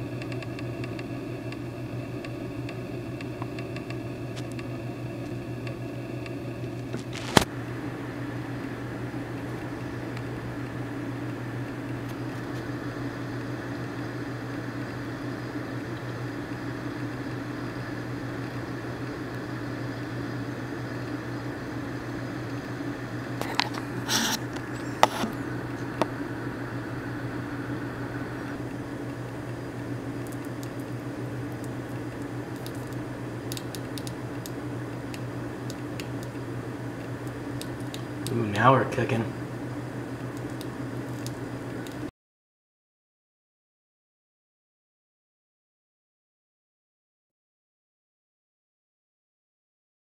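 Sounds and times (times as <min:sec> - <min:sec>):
low mechanical hum: 0:00.0 - 0:42.1.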